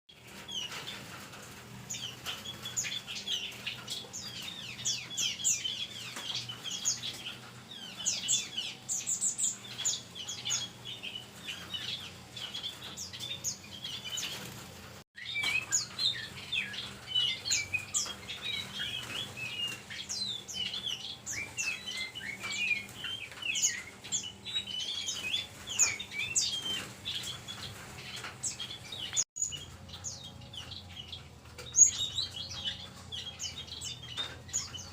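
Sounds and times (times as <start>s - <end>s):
songbirds chirping and calling: 0.1s - 34.9s.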